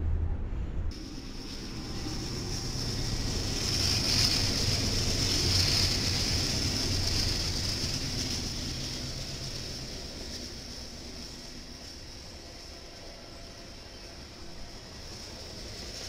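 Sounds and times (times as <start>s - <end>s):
diesel locomotive engines rumbling: 0.0s - 16.0s
hiss of train wheels on rail: 0.9s - 16.0s.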